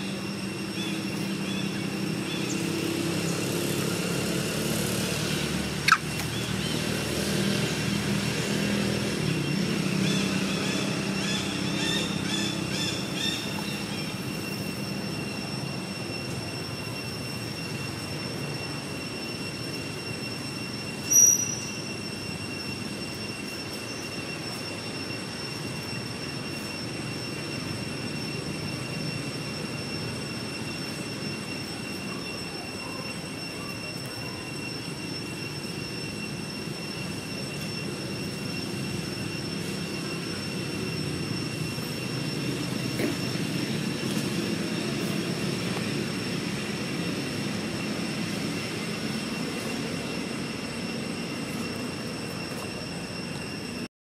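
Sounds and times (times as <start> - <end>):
thin high whine: 0.0 - 53.9.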